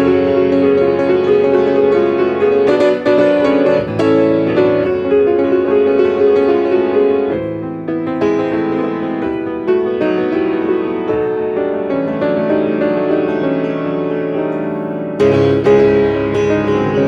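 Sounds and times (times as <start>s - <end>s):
solo piano: 0.0s - 17.0s.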